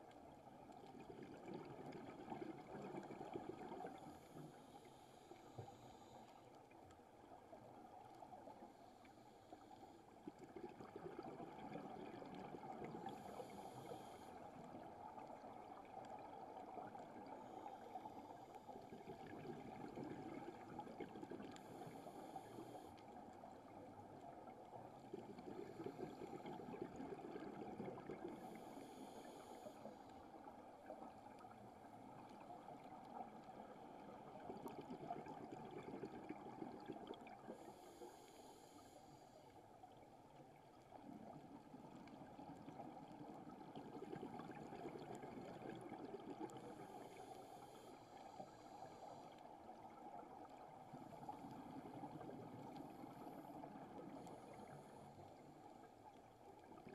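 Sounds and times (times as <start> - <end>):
muffled underwater crackling hiss: 0.0 - 56.9.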